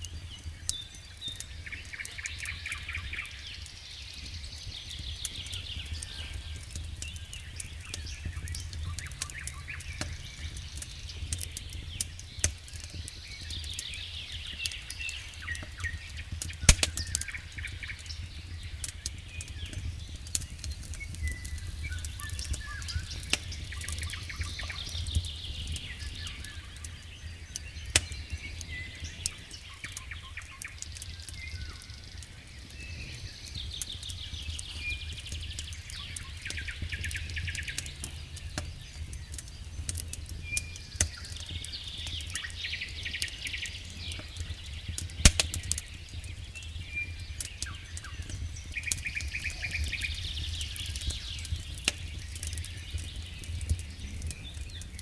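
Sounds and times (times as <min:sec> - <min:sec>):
campfire crackling and popping: 0:00.0 - 0:55.0
songbirds trilling: 0:00.0 - 0:55.0.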